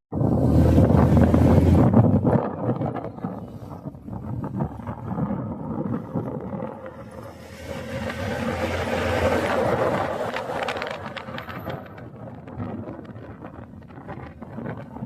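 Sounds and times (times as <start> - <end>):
moving vehicle rumble: 0.1 - 15.0
wind buffeting microphone: 0.1 - 15.0.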